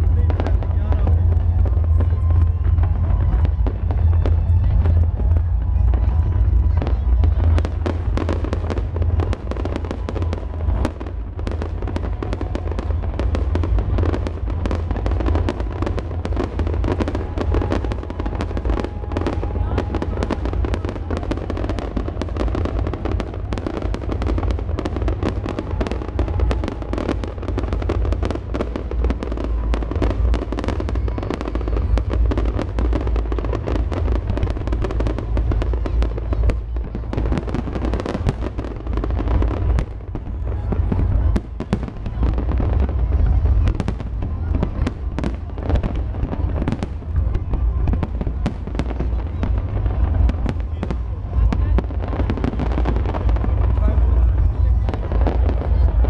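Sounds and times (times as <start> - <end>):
deep rumble: 0.0 - 56.0
fireworks bangs and crackling: 0.0 - 56.0.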